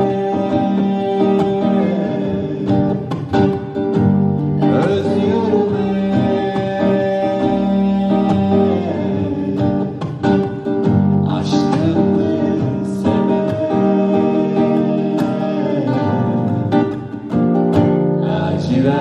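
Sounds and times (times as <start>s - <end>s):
man and woman singing: 0.0s - 3.8s, 4.6s - 10.6s, 11.2s - 17.2s, 18.1s - 19.0s
acoustic guitar: 0.0s - 19.0s.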